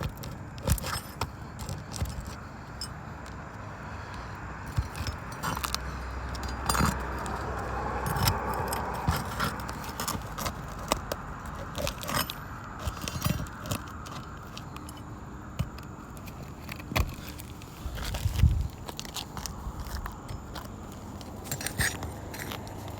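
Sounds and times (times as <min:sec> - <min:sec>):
metallic clinks and scrapes: 0:00.0 - 0:22.9.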